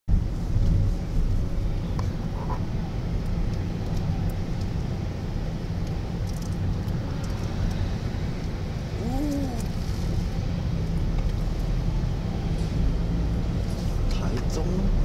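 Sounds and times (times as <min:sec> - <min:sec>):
car engine rumble: 0:00.1 - 0:15.0
road noise: 0:00.1 - 0:15.0.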